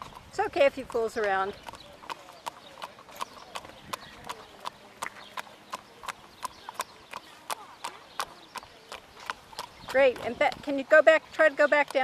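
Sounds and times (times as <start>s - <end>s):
hooves trotting on asphalt: 0.0s - 12.0s.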